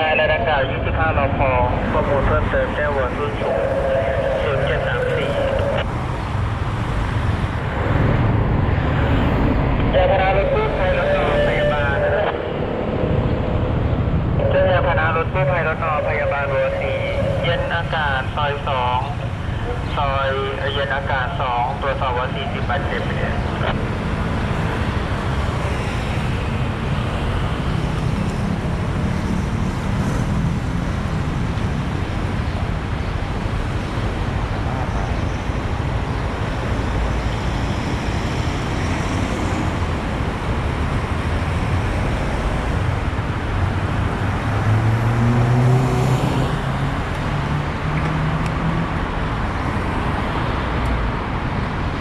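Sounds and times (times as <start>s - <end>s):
road traffic engines running: 0.0s - 52.0s.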